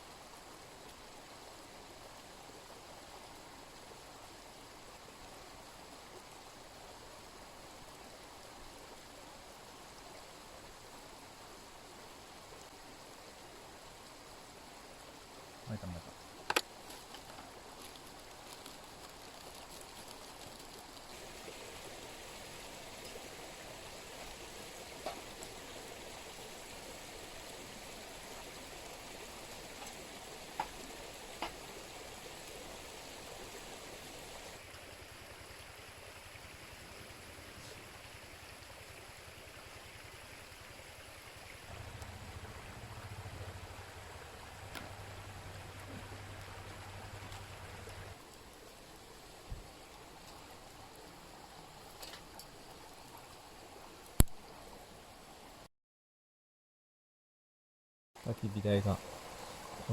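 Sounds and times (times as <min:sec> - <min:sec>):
mountain stream running: 0:00.0 - 0:55.7, 0:58.2 - 0:59.9.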